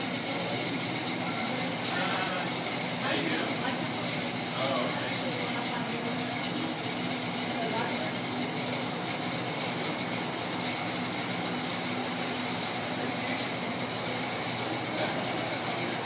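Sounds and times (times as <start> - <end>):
model train wheels rolling on rail: 0.0 - 16.0
steady high whine: 0.0 - 16.0.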